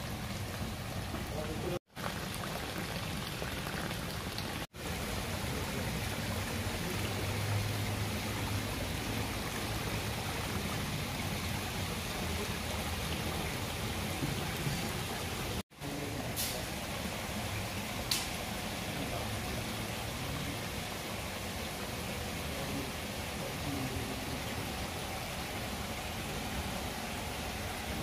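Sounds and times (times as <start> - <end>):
waterfall splashing into pond: 0.0 - 28.0.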